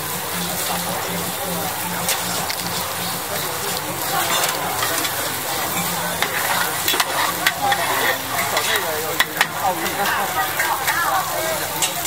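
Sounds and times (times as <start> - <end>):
omelette sizzling in oil: 0.0 - 12.0
metal utensils clinking on pan: 0.4 - 12.0.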